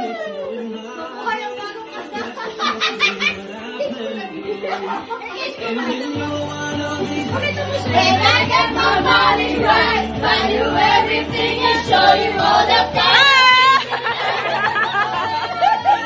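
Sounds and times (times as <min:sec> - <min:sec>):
pop music: 0:00.0 - 0:16.0.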